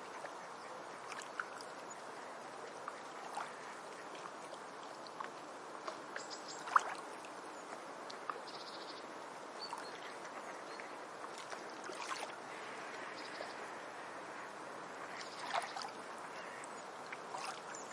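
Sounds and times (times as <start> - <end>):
water lapping: 0.0 - 17.9
small ticks and splashes: 0.1 - 9.0, 9.6 - 13.6, 15.1 - 17.9.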